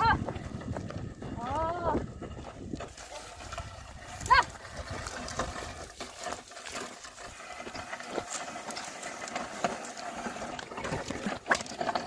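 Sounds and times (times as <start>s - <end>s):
hooves and plough scuffing: 0.0s - 12.0s
outdoor background noise: 0.0s - 12.0s.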